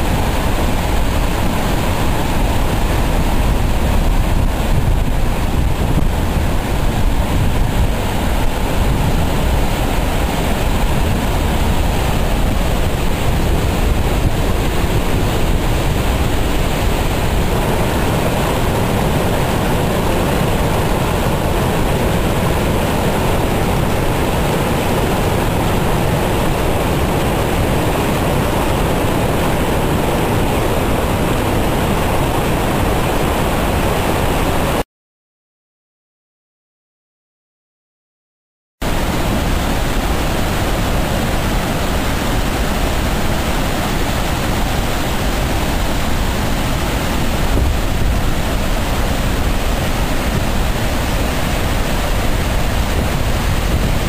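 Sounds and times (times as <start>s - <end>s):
waterfall rushing: 0.0s - 34.8s, 38.8s - 54.0s.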